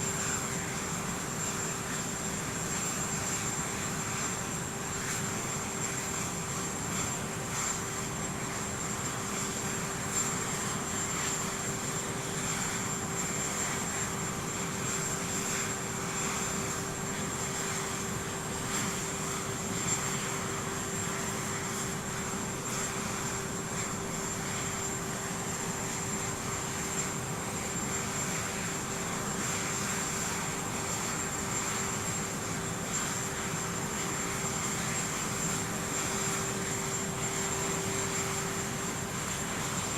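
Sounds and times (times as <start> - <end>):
aircraft engine rushing: 0.2 - 39.9.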